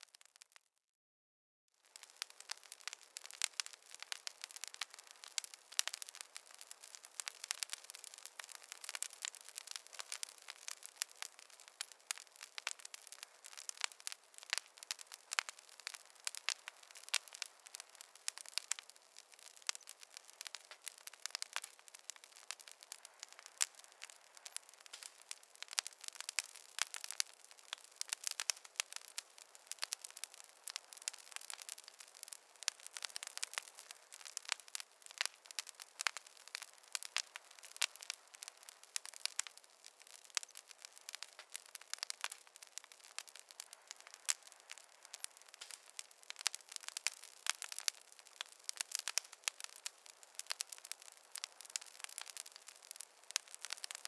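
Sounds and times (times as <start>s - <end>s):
campfire crackling: 0.0s - 0.6s, 1.8s - 54.0s.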